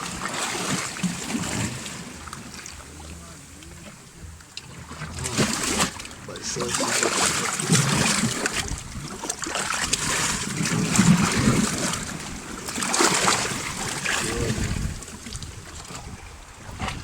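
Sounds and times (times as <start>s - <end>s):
sea waves splashing over rocks: 0.0s - 17.0s
wind rumbling on microphone: 0.0s - 17.0s.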